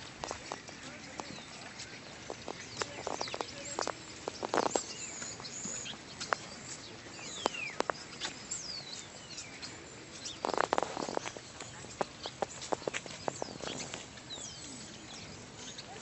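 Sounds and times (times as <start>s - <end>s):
birds chirping: 0.0s - 16.0s
child's footsteps on dry leaves: 0.0s - 16.0s
high-pitched bird calls: 0.0s - 16.0s.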